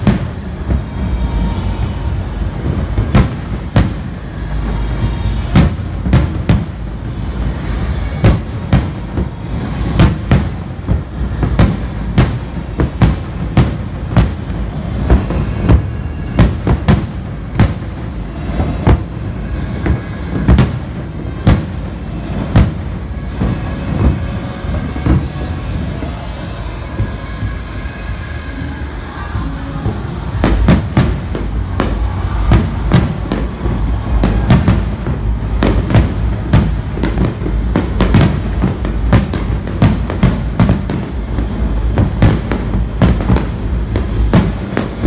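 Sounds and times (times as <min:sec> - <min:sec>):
low rumble: 0:00.0 - 0:45.0.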